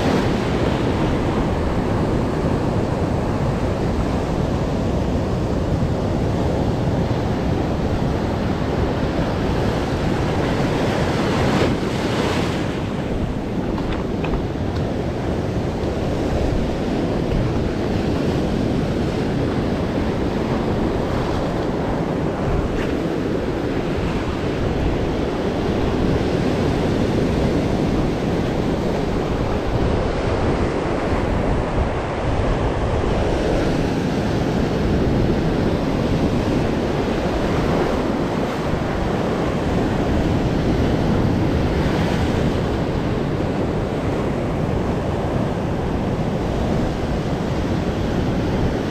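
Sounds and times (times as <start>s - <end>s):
sea surf breaking on rocks: 0.0s - 48.9s.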